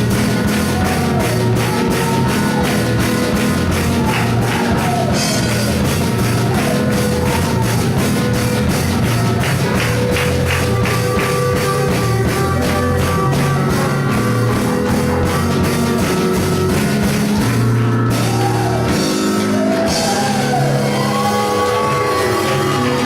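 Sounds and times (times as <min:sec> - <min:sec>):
rock band music: 0:00.0 - 0:23.0.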